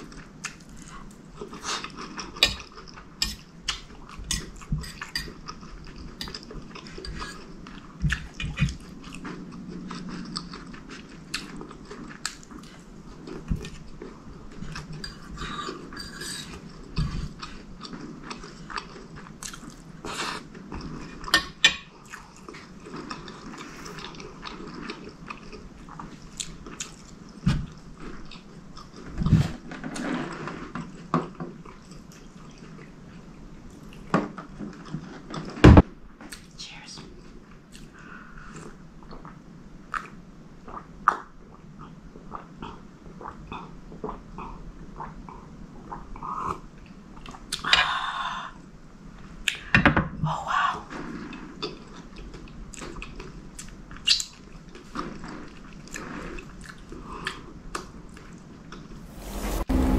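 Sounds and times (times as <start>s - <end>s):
close chewing and mouth sounds: 0.0s - 35.6s, 36.2s - 36.6s, 37.2s - 48.0s, 50.8s - 59.0s.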